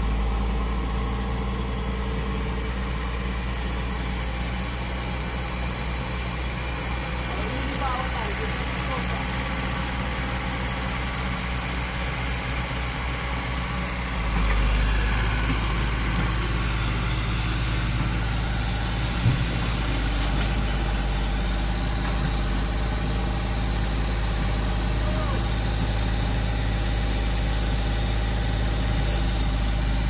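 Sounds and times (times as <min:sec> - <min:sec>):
mini excavator diesel engine: 0:00.0 - 0:30.0.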